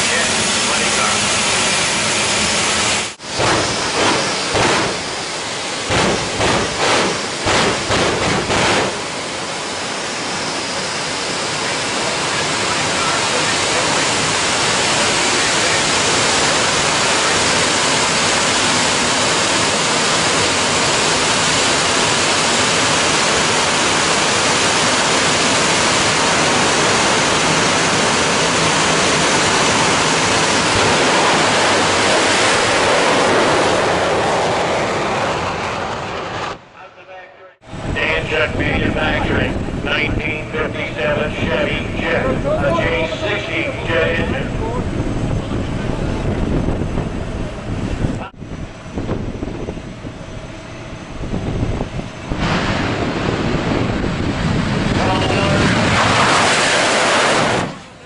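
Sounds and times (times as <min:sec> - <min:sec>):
loud rushing jet noise: 0:00.0 - 0:36.8, 0:37.6 - 0:58.0
jet engine pulses: 0:00.0 - 0:58.0.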